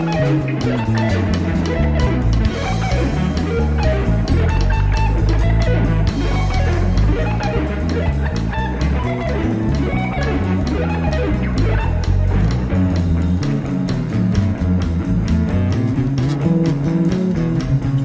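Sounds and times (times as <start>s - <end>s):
bass guitar: 0.0s - 18.0s
drum kit beat: 0.0s - 18.0s
electric guitar: 0.0s - 18.0s.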